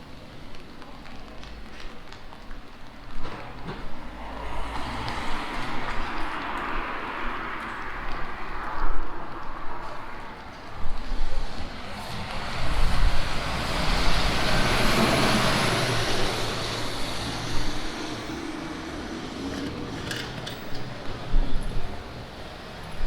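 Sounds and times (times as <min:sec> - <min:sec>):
vehicle passing on wet street: 0:00.0 - 0:23.0.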